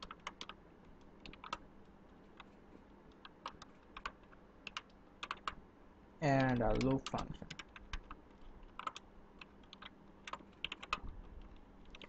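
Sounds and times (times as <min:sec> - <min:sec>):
keyboard typing: 0:00.0 - 0:01.6, 0:03.1 - 0:05.6, 0:06.3 - 0:12.0.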